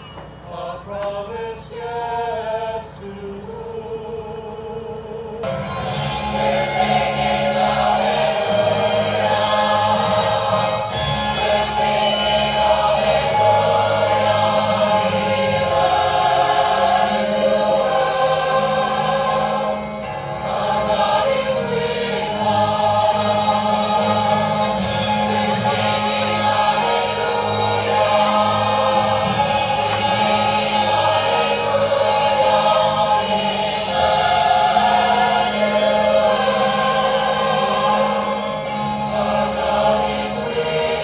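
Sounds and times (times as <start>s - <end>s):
choir singing sacred music: 0.0s - 41.0s.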